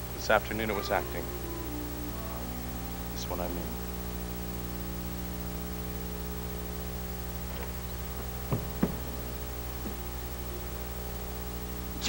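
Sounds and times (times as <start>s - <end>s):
electrical hum: 0.0s - 12.0s
tape hiss: 0.0s - 12.0s.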